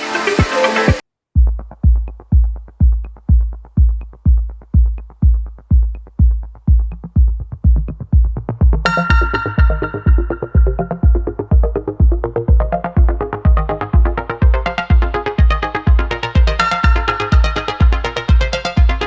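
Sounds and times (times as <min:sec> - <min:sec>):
synthesizer chords: 0:00.0 - 0:19.0
kick drum beat: 0:00.4 - 0:19.0.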